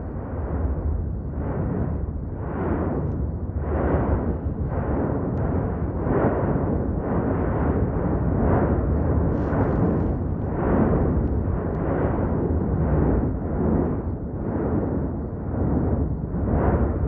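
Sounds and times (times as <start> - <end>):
volcano vent rumbling in pulses: 0.0 - 17.0.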